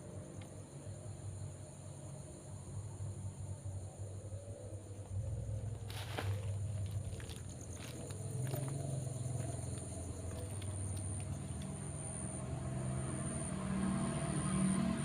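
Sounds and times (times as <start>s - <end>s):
low rumbling hum: 0.0s - 12.4s
high-pitched insect drone: 0.8s - 15.0s.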